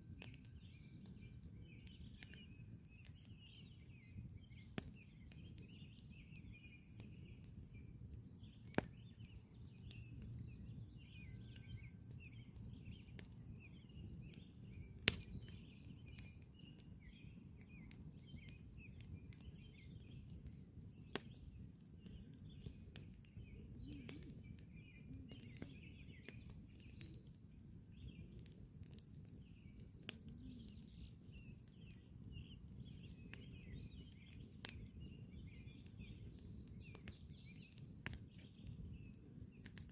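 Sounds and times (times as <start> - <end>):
small birds chirping: 0.0 - 39.9
campfire crackling and popping: 0.1 - 39.9.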